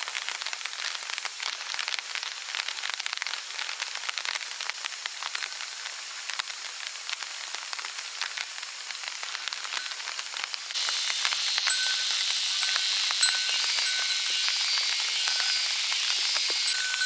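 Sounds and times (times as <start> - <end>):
rain falling steadily: 0.0 - 17.0.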